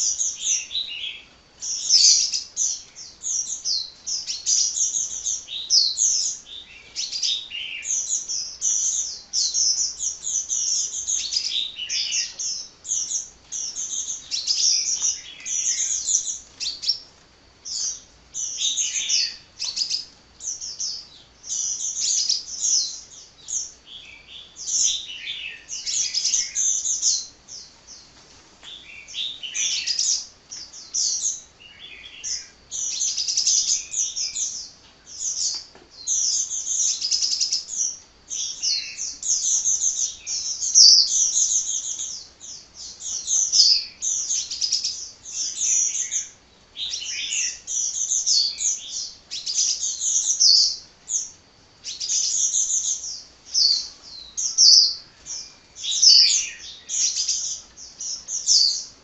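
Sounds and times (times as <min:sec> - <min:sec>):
sunbird twittering song: 0:00.0 - 0:59.0.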